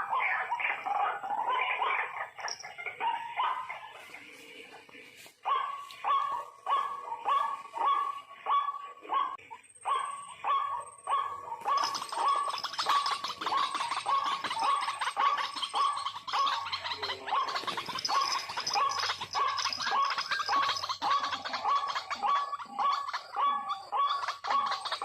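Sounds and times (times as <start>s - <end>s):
bird harsh repeated calls: 0.0s - 4.4s, 5.4s - 25.0s.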